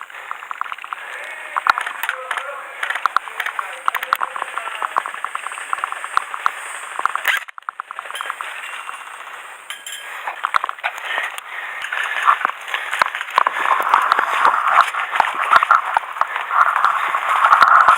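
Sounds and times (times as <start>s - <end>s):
sharp clicks and clacks: 0.0s - 17.9s.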